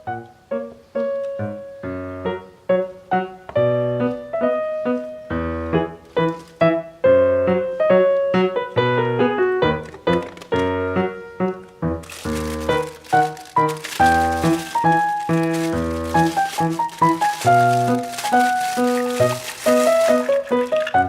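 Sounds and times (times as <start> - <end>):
light piano tune: 0.0 - 21.0.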